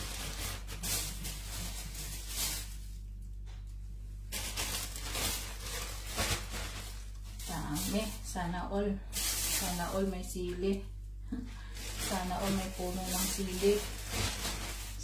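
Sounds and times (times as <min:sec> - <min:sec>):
leaves rustling in hands: 0:00.0 - 0:03.2, 0:04.3 - 0:10.6, 0:11.7 - 0:15.0.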